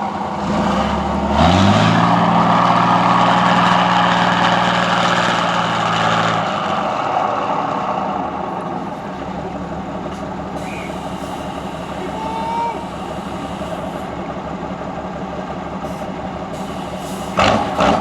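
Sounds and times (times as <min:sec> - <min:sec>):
heavy truck engine running: 0:00.0 - 0:18.0.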